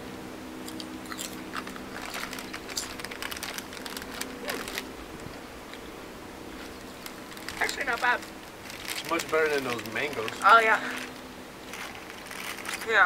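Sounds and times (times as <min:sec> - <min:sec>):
potato chips crunching: 0:00.6 - 0:04.9, 0:06.5 - 0:13.0.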